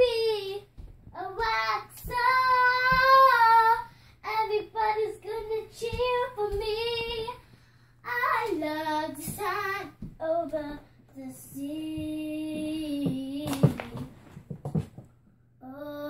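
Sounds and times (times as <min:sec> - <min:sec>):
girl singing wordless phrases: 0:00.0 - 0:14.2, 0:15.6 - 0:16.0.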